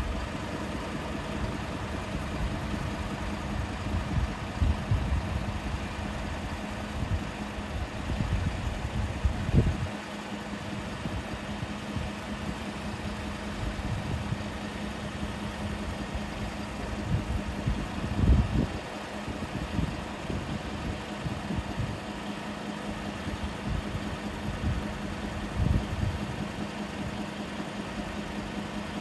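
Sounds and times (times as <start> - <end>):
compressor humming: 0.0 - 29.0.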